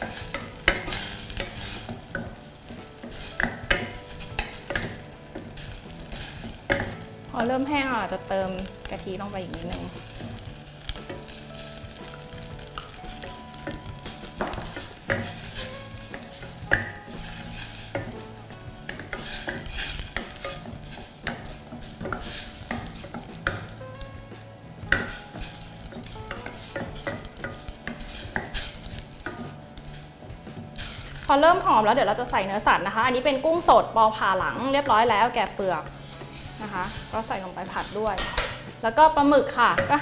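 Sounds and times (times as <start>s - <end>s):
wooden spoon scraping a pan: 0.0s - 32.6s, 33.5s - 38.7s
curry paste sizzling in a saucepan: 0.0s - 40.0s.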